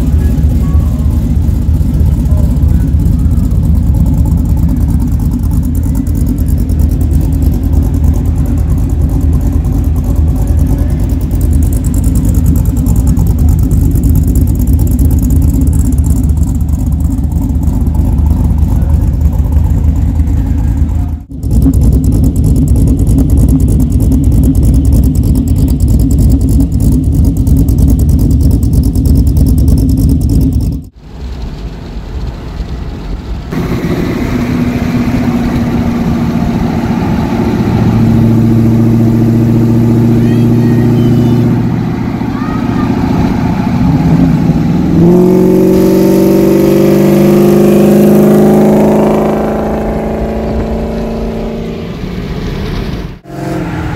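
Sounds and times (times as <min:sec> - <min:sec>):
truck exhaust deep rumble: 0:00.0 - 0:53.9.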